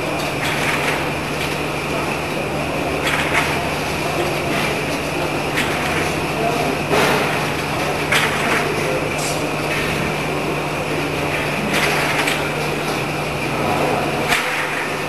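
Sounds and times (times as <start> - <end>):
machine humming with high whine: 0.0 - 15.0.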